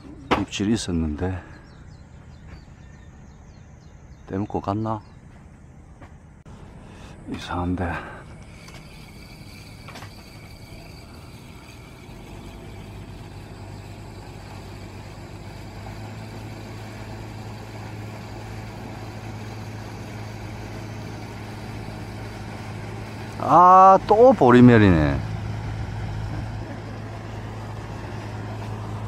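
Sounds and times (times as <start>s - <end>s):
engine humming: 0.0s - 29.0s.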